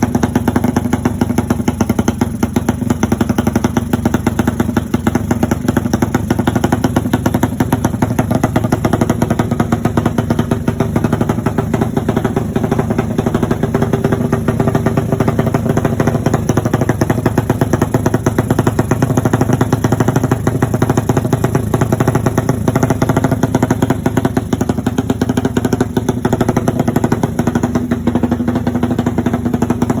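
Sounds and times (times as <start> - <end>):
motorcycle exhaust running: 0.0 - 30.0.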